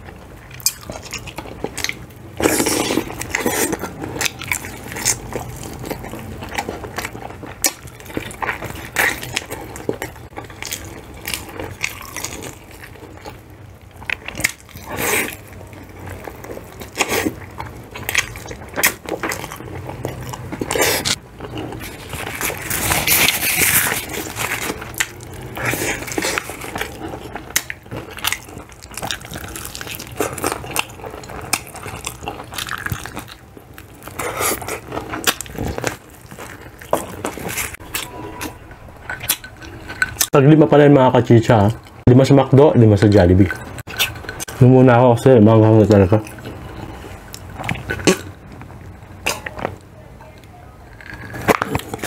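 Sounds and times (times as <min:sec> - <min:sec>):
crunching fried chicken: 0:00.0 - 0:52.0.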